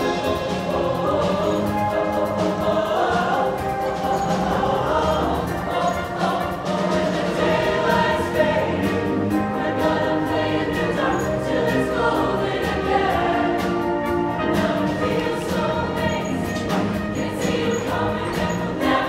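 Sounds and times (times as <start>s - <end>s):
live band with saxophones: 0.0s - 12.0s, 12.9s - 19.0s
choir singing in harmony: 0.0s - 19.0s.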